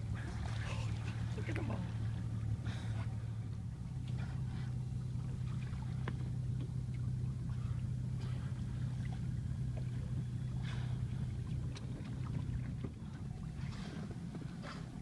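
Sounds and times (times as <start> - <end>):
outboard engine humming: 0.0 - 15.0.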